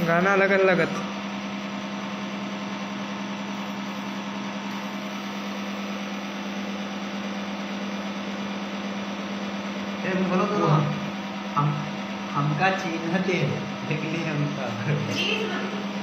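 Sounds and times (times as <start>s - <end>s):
electric suction pump humming: 0.0s - 16.0s.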